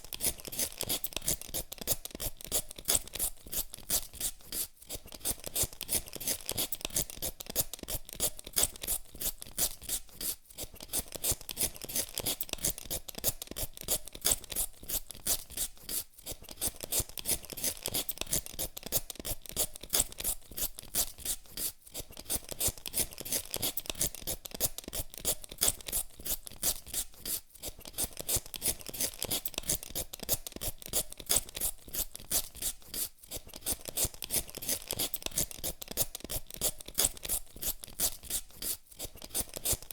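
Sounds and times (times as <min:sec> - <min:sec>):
peeler scraping potato skin: 0:00.0 - 0:39.9.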